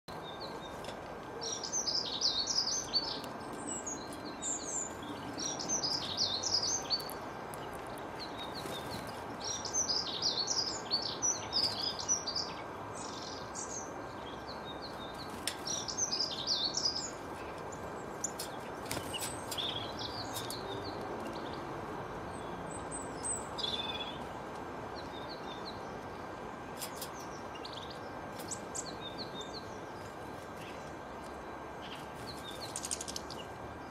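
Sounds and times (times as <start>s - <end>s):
songbirds twittering: 0.1s - 33.9s
steady background hiss: 0.1s - 33.9s.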